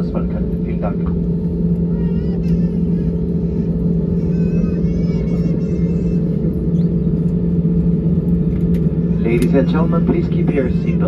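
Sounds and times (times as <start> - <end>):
aircraft cabin rumble and hum: 0.0 - 11.0.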